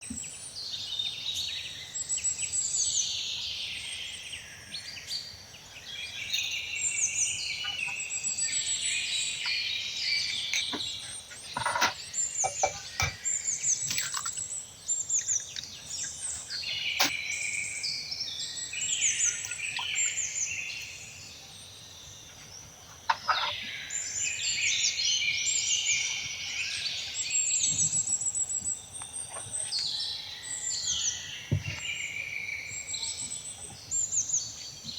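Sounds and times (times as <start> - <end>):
small birds chirping and singing: 0.0 - 34.9.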